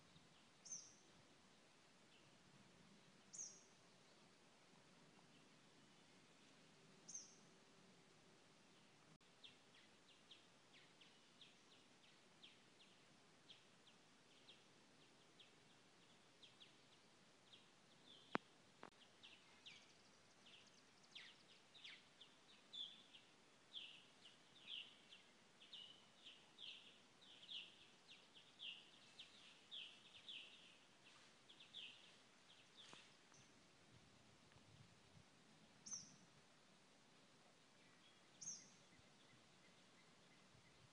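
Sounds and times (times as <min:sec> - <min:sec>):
faint birdsong chirps: 0:00.0 - 0:40.9.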